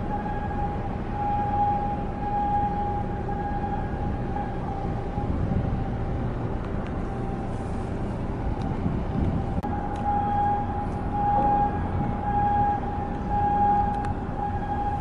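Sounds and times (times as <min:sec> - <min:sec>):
high-pitched mechanical whine: 0:00.0 - 0:15.0
low rumble: 0:00.0 - 0:15.0.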